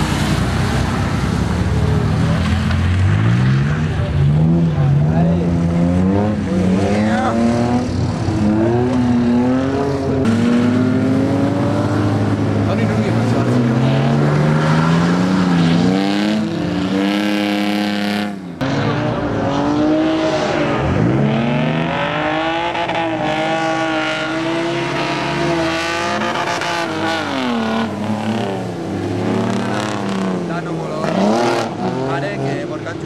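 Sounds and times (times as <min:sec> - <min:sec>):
car engines revving hard: 0:00.0 - 0:33.0.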